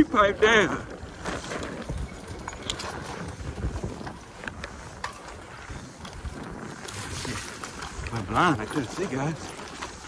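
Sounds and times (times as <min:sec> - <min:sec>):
bike rattling over bumps: 0:00.0 - 0:10.0
bike tyre rumble on dirt: 0:00.0 - 0:10.0
wind buffeting microphone: 0:00.0 - 0:10.0.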